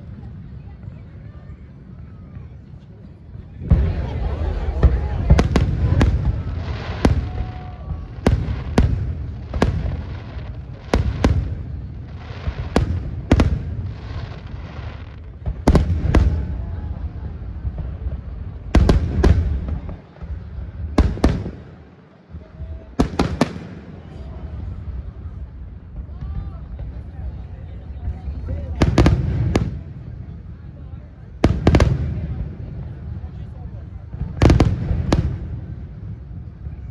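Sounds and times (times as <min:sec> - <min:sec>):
low continuous rumble: 0:00.0 - 0:36.9
fireworks bursting: 0:03.6 - 0:36.9.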